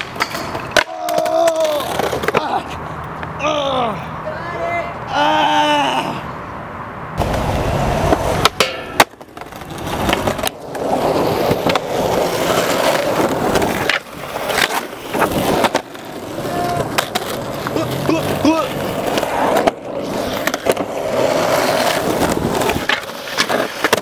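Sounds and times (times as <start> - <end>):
skateboard clacks: 0.0 - 2.8, 7.2 - 24.0
skateboard wheels rolling on concrete: 0.0 - 24.0.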